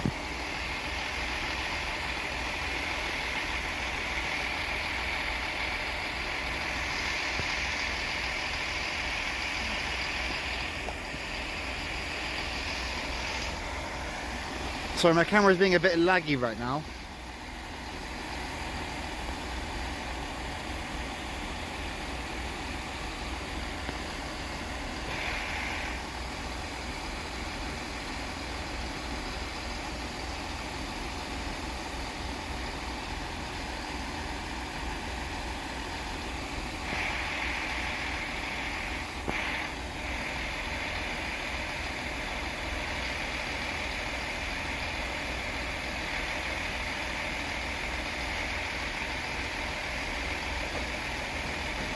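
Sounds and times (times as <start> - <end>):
diesel train engine idling: 0.0 - 51.9.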